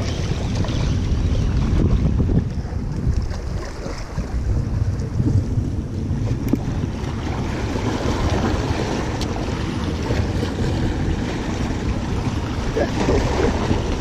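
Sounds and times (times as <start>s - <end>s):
sea waves against rocks: 0.0s - 14.0s
wind rumble on microphone: 0.0s - 14.0s.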